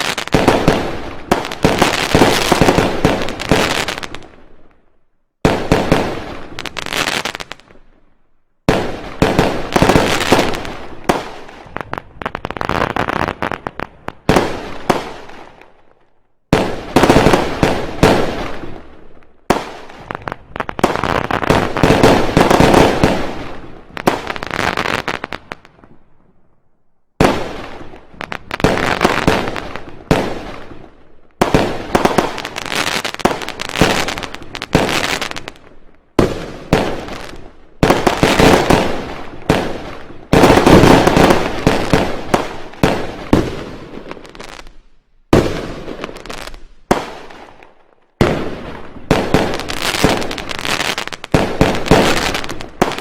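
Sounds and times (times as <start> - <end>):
fireworks banging and crackling: 0.0 - 4.8, 5.4 - 8.0, 8.6 - 26.3, 27.2 - 53.0.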